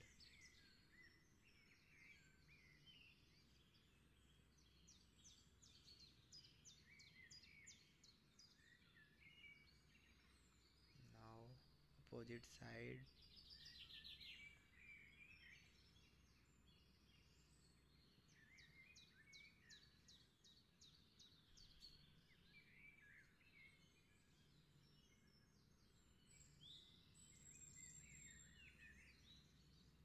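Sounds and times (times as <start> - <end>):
faint birdsong: 0.0 - 30.0.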